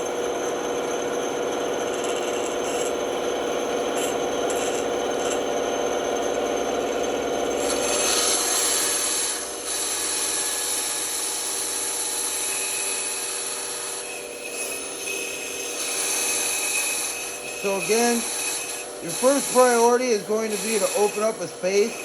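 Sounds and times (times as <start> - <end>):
band saw cutting wood: 0.0 - 22.0.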